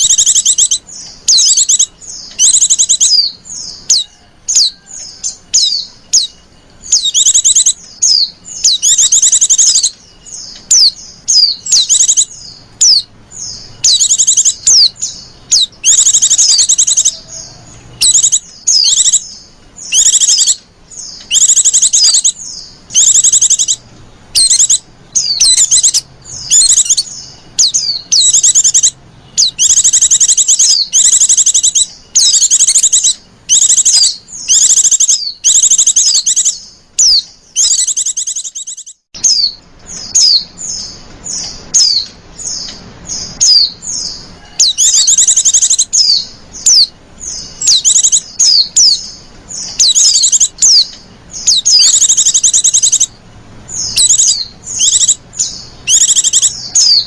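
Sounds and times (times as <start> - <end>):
bird twittering trills and chirps: 0.0 - 57.0.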